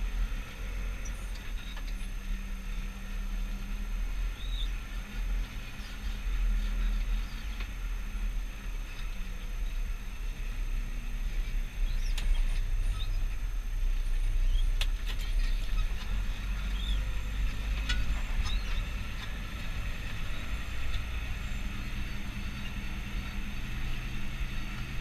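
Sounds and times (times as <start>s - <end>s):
tractor engine rumble: 0.0s - 25.0s.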